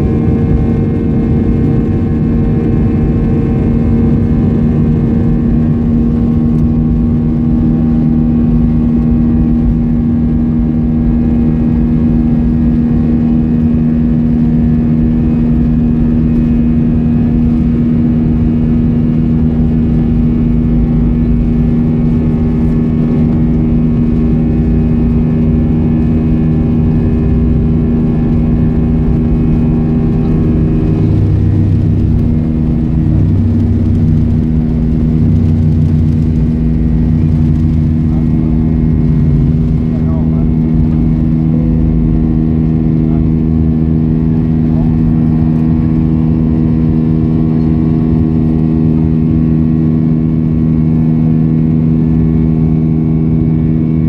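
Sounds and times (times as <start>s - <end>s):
jet engine drone in cabin: 0.0s - 54.0s
low rumble: 0.0s - 54.0s.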